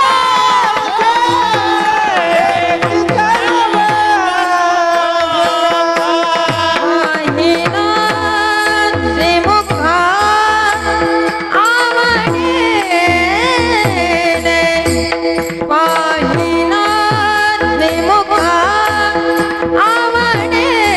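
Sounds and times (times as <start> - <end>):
instrumental accompaniment: 0.0 - 20.9
man singing devotional song: 0.0 - 20.9
tabla strokes: 0.0 - 20.9.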